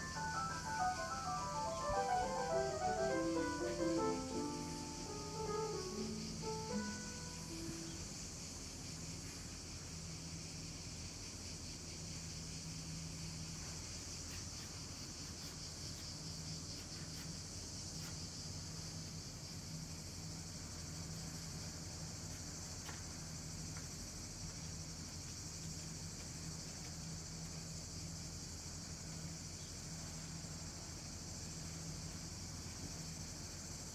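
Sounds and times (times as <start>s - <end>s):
cicadas shrilling: 0.0s - 33.9s.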